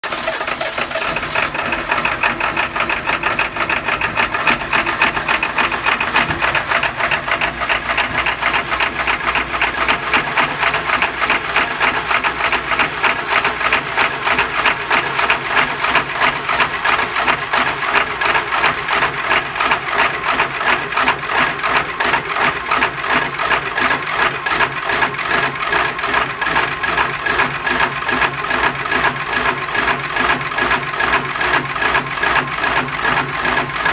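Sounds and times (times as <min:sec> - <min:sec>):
truck engine pulsing exhaust: 0:00.0 - 0:33.9.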